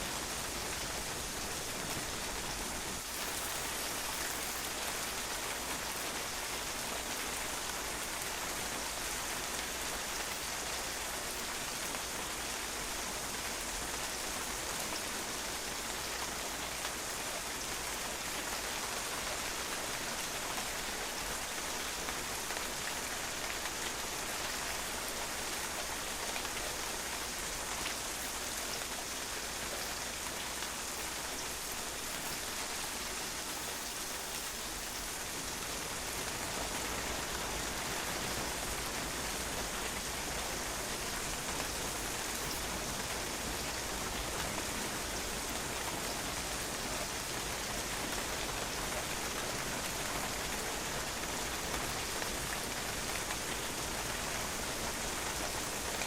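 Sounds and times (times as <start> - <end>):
rain on a patio: 0.0 - 56.0.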